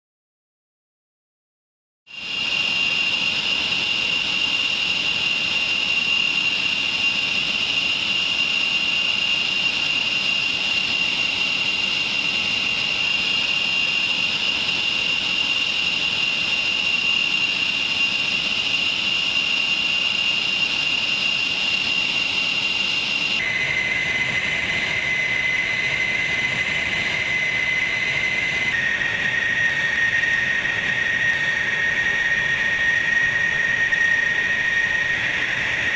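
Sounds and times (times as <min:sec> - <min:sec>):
jet engines whining: 0:02.1 - 0:35.9.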